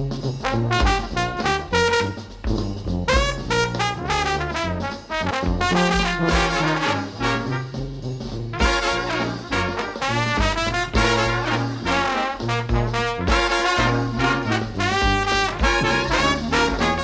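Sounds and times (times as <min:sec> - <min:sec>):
brass background music: 0:00.0 - 0:17.0.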